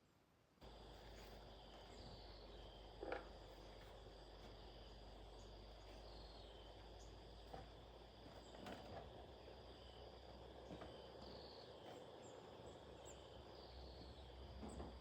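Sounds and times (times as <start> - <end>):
insects chirping: 0.6 - 15.0.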